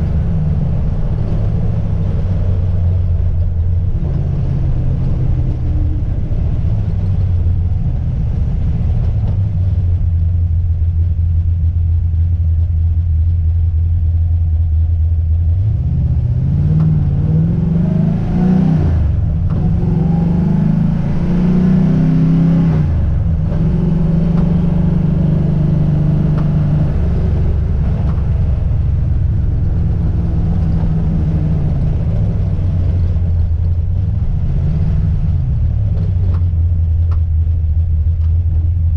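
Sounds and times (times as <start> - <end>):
car engine revving: 0.0 - 10.7, 15.4 - 38.9
road noise: 0.0 - 38.9.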